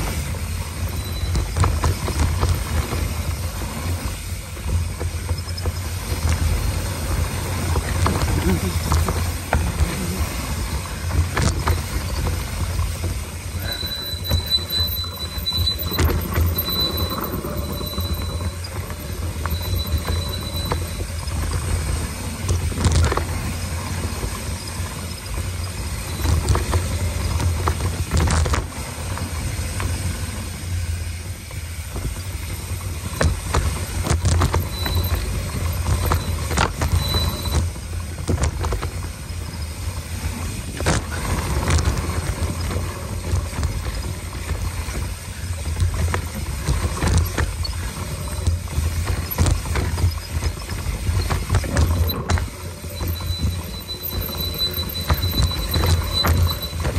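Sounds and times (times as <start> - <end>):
bike brake squeal: 0.0 - 30.8, 32.2 - 56.9
bike knocking and rattling: 0.0 - 56.9
wind and tyres rumbling: 0.0 - 56.9.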